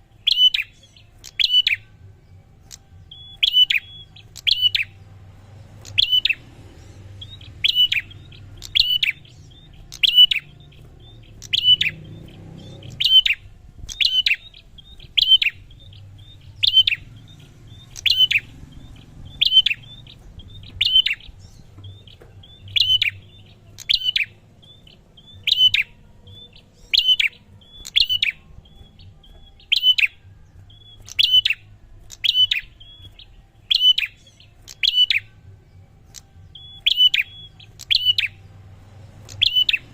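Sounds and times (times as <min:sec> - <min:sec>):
bird high sharp chirp: 0:00.1 - 0:02.0, 0:02.6 - 0:39.9.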